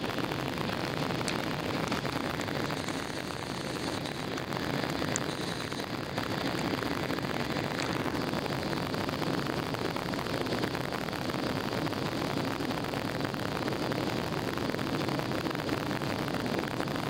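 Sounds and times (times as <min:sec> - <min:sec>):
jet airliner cabin rumble: 0:00.0 - 0:17.0.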